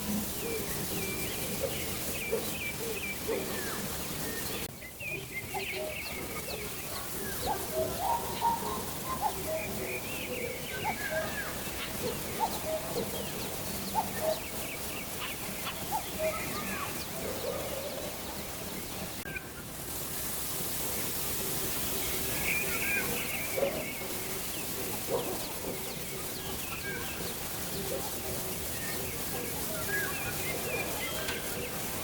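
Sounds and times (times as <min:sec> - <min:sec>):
birds chirping and calling: 0:00.0 - 0:19.7, 0:21.5 - 0:32.0
steady outdoor hiss: 0:00.0 - 0:32.0.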